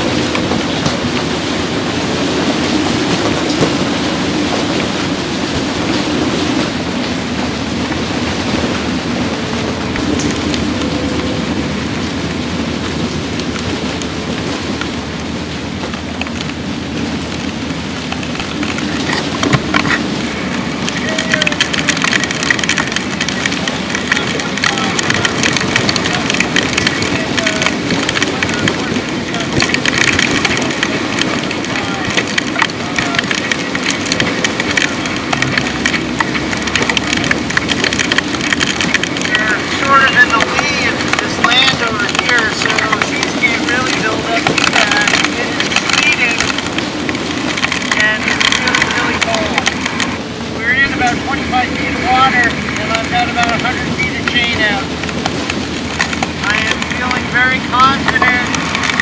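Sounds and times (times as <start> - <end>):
low rumble of wind: 0.0 - 59.0
raindrop ticks: 0.0 - 59.0.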